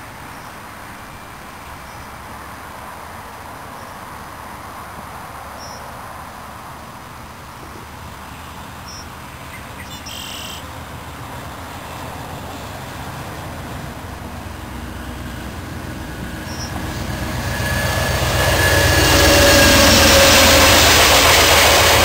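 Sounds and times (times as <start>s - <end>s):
diesel train passing: 0.0s - 22.0s.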